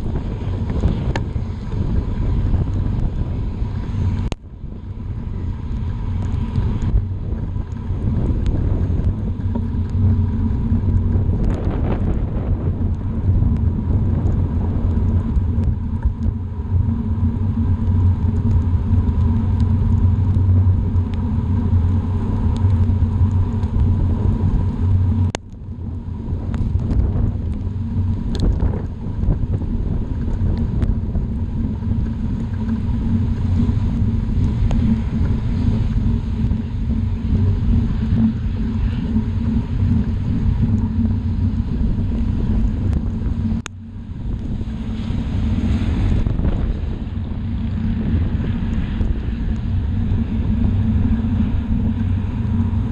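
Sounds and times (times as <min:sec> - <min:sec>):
bicycle tyres rolling on wet road: 0:00.0 - 0:52.9
wind buffeting microphone: 0:00.0 - 0:52.9.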